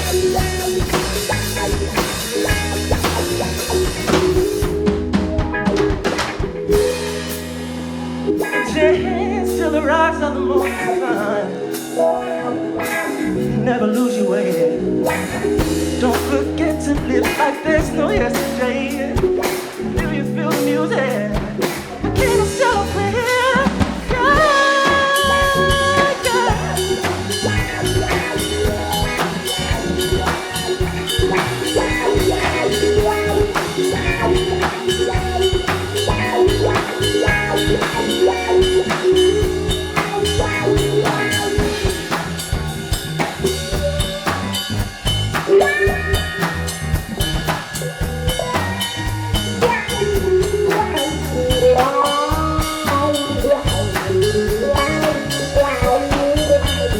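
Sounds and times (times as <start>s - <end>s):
drum kit beat: 0.0s - 8.7s, 15.0s - 56.9s
funk rock band playing: 0.0s - 56.9s.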